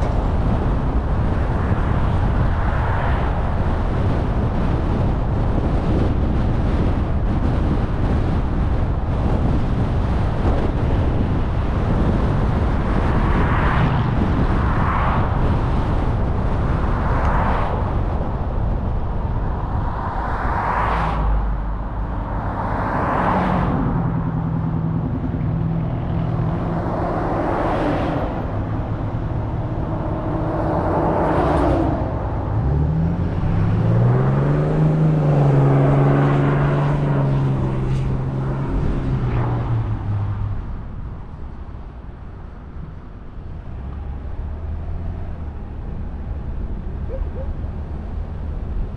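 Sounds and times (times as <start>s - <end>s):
tyre and road rumble: 0.0s - 48.9s
vehicles passing: 0.0s - 48.9s.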